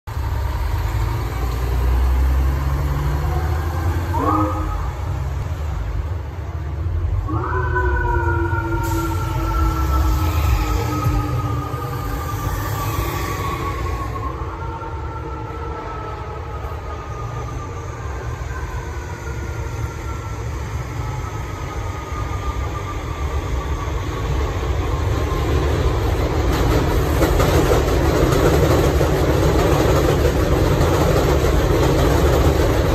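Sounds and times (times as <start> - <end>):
elevated train rumbling and rattling: 0.0 - 32.9.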